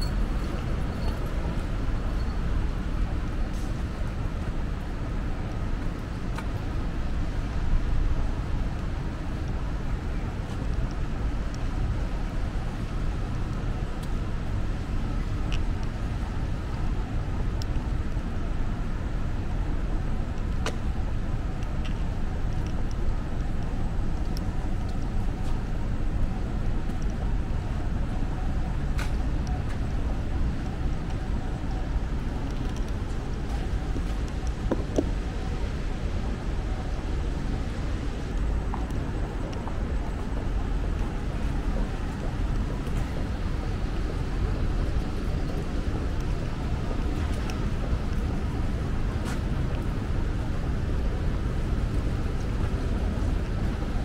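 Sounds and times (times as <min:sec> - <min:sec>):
traffic rumble on wet roads: 0:00.0 - 0:54.0.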